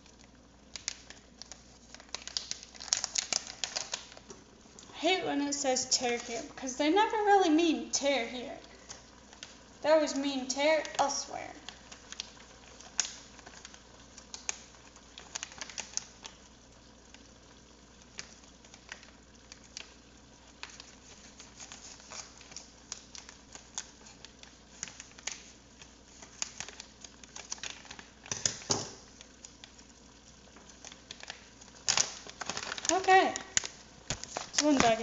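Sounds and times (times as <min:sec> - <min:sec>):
plastic bag crinkling: 0:00.0 - 0:35.0.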